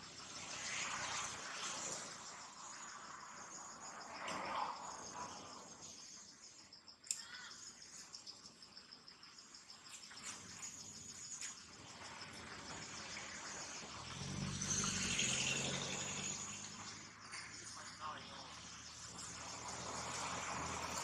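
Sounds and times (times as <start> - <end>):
insects chirring in pulsing trill: 0.0 - 21.0.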